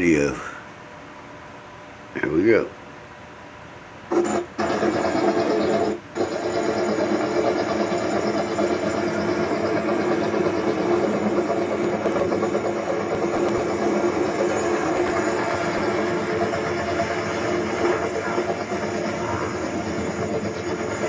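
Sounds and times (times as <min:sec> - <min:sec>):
helicopter rotor drone: 0:04.1 - 0:21.0.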